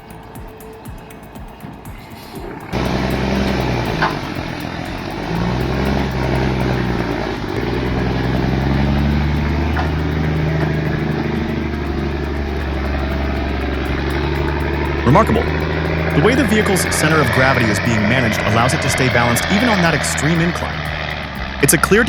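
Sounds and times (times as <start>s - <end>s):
heavy vehicle engine under load: 2.1s - 22.0s.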